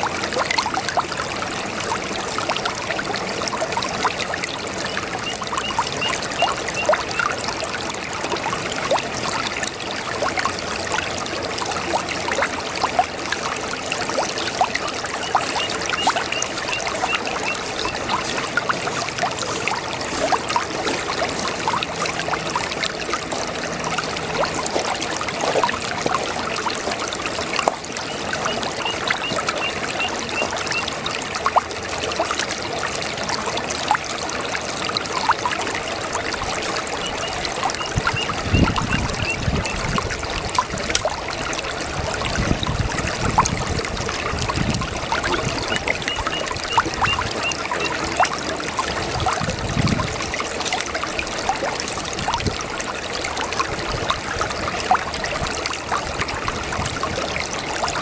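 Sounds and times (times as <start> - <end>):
brook water over stones: 0.0 - 58.0.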